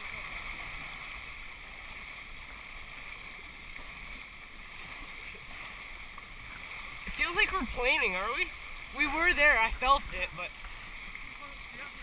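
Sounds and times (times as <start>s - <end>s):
water rushing: 0.0s - 12.0s
wind: 0.0s - 12.0s.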